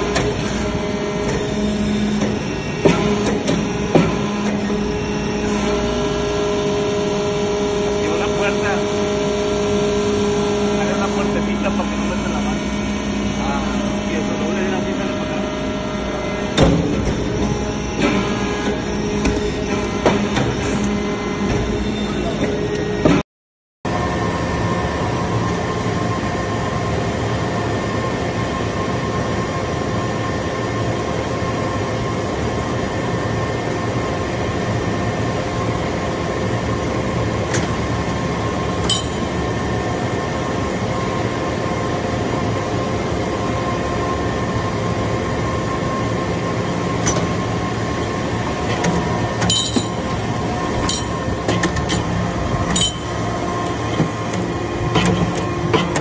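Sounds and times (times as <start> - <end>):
hydraulic unit hum with whine: 0.0 - 23.2, 23.9 - 56.0.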